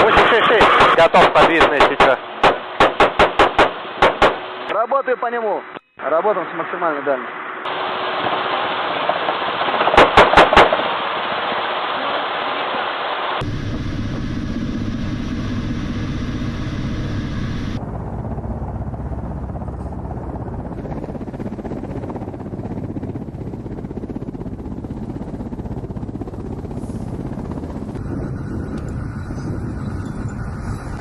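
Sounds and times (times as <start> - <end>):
helicopter rotor and engine: 0.0 - 10.8, 13.4 - 31.0.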